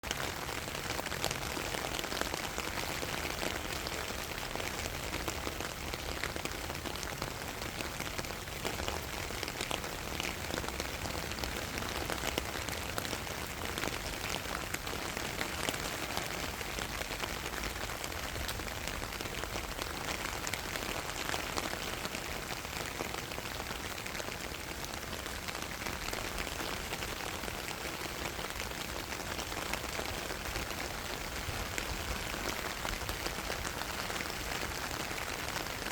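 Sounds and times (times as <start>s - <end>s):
rain pattering on a surface: 0.0s - 35.9s.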